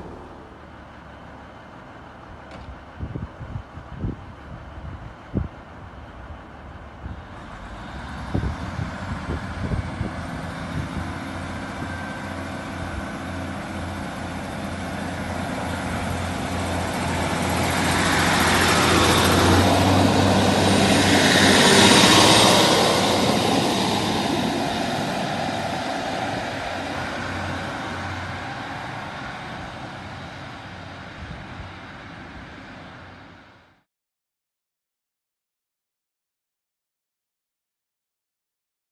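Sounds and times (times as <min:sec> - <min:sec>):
train wheels on rails: 0:00.0 - 0:33.6
diesel train engines: 0:00.0 - 0:33.8.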